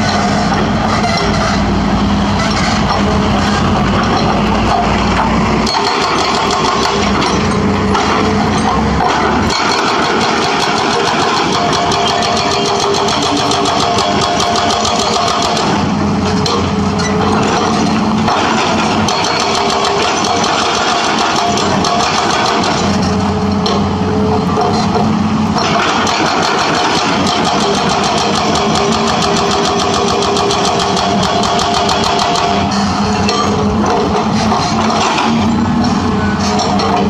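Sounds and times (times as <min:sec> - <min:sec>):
excavator engine running: 0:00.0 - 0:37.0
hydraulic breaker hammering concrete: 0:02.5 - 0:35.7.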